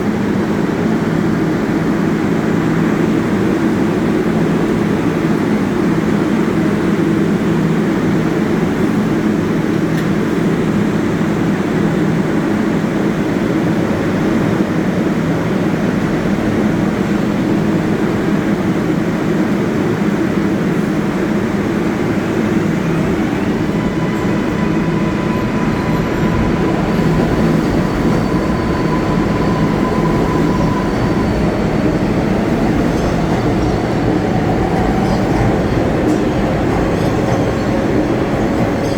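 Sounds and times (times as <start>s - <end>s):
rumble of train wheels on rail: 0.0s - 38.9s.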